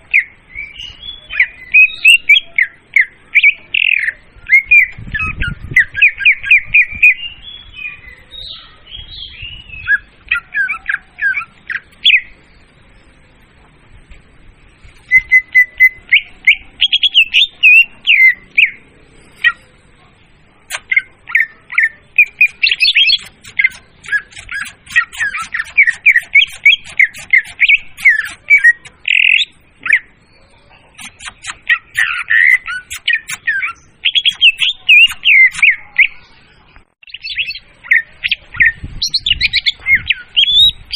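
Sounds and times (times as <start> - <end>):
bird chirping and whistling: 0.1 - 12.3, 15.0 - 18.8, 20.7 - 30.1, 31.0 - 36.2, 37.1 - 40.9.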